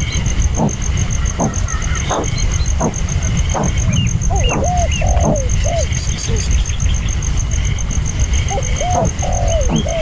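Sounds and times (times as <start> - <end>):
loud curved animal calls: 0.0 - 6.6, 8.4 - 10.0
faint bird chirps: 0.0 - 10.0
insect pulsing trill: 0.0 - 10.0.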